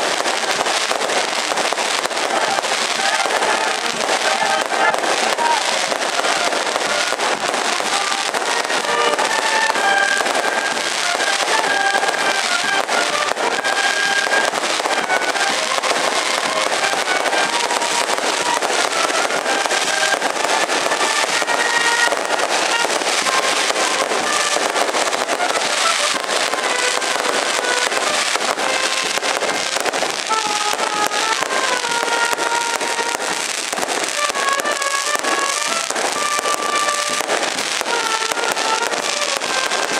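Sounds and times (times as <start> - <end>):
firecrackers crackling: 0.0 - 39.9
street band playing: 0.0 - 39.9.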